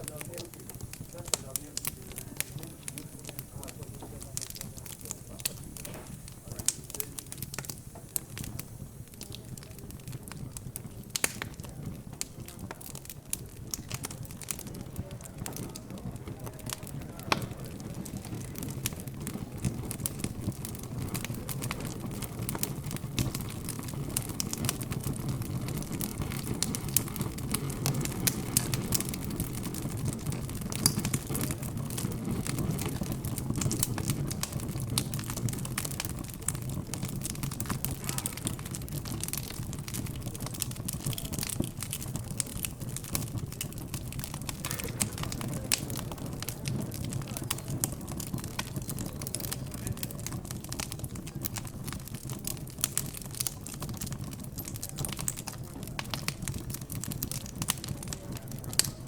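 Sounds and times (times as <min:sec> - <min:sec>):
fire crackling and popping: 0:00.0 - 0:59.0
indistinct background chatter: 0:00.0 - 0:59.0.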